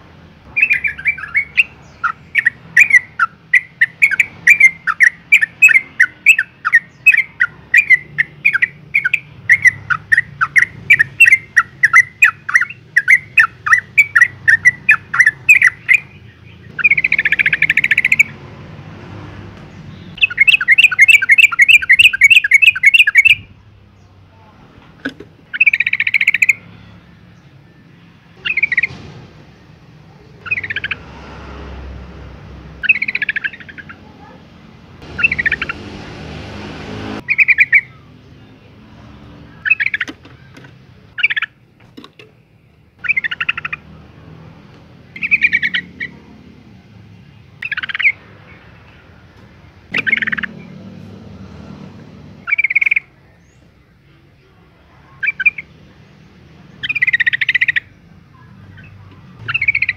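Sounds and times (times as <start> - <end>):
bird chirping: 0.4 - 24.2, 25.1 - 31.2, 32.8 - 34.4, 35.0 - 41.7, 42.3 - 59.9.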